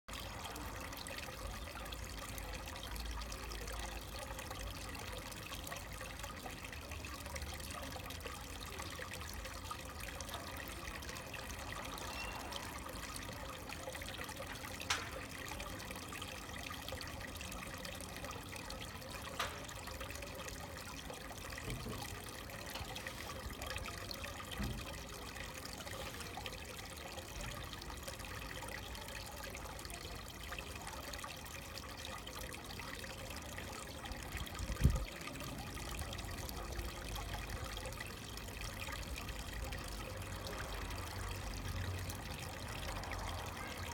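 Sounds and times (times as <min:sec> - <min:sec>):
water trickling into stone basin: 0:00.1 - 0:43.9.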